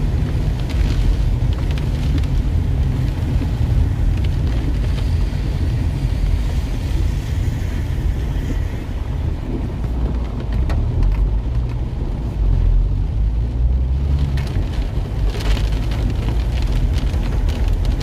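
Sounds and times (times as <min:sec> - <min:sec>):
engine and tyres rumbling on wet road: 0:00.0 - 0:18.0
rain ticking on windshield: 0:00.0 - 0:18.0.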